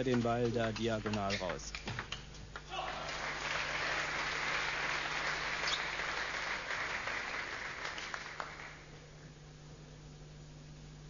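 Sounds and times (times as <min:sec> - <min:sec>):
spectators applauding: 0:00.0 - 0:09.0.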